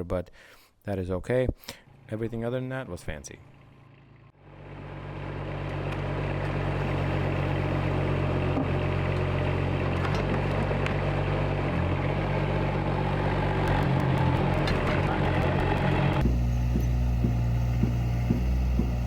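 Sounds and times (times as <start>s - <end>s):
engine running: 3.4s - 19.0s.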